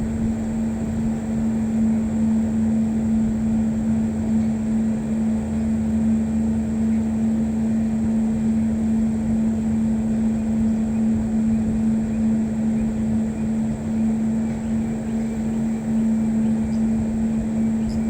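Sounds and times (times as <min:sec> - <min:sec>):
low engine-like drone: 0:00.0 - 0:18.0.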